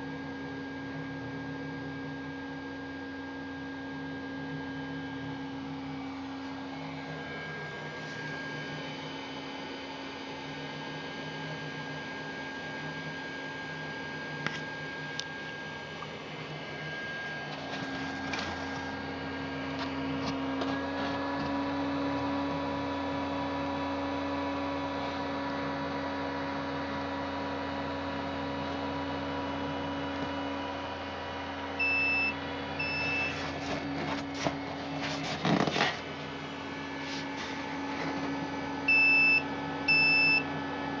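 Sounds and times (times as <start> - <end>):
computer power supply fan hum: 0.0 - 41.0.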